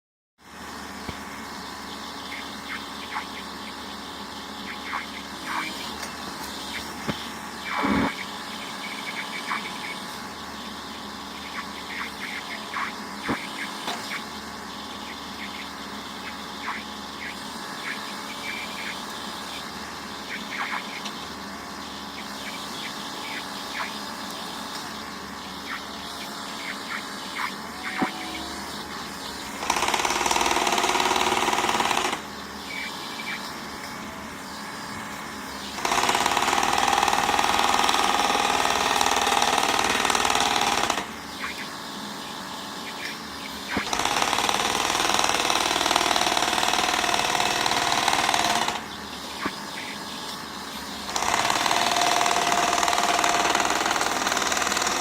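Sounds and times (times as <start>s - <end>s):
excavator engine running: 0.5s - 55.0s.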